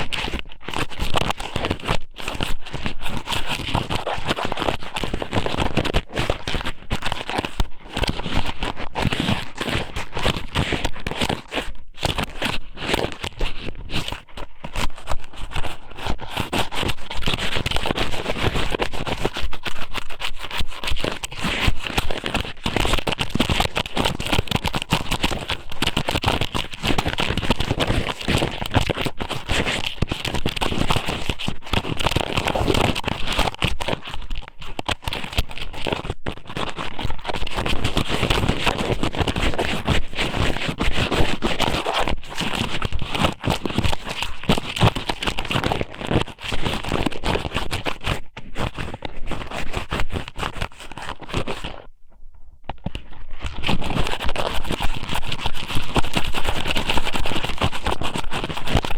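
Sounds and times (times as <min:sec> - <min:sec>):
sticky crackling and scraping on microphone: 0:00.0 - 0:58.9.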